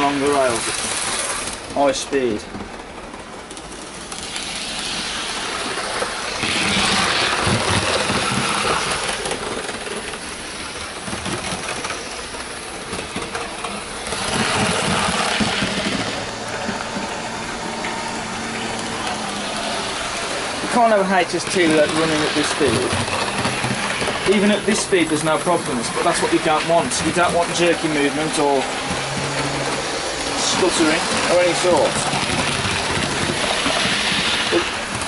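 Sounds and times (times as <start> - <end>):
model train motor hum: 0.0 - 35.0
model train wheels rumbling on rails: 0.0 - 35.0.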